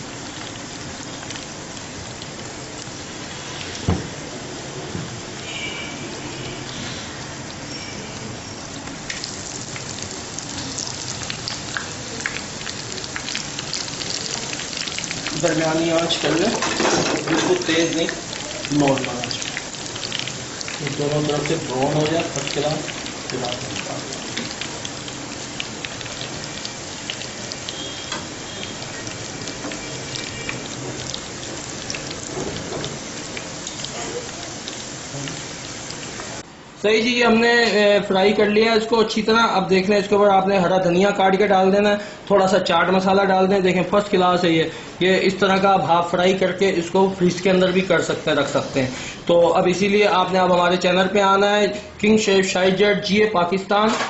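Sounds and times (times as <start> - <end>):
deep-frying sizzle with pops: 0.0 - 36.5, 37.2 - 41.7, 42.3 - 54.0.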